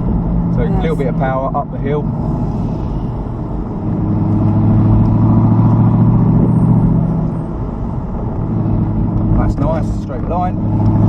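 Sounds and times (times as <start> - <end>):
car engine pulling uphill: 0.0 - 11.0.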